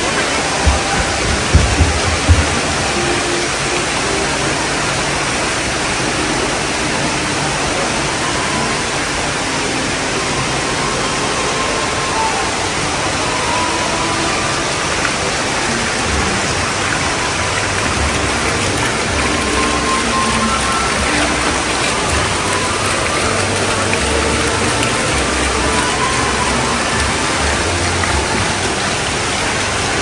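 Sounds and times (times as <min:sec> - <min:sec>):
fountain water splashing into pool: 0:00.0 - 0:30.0.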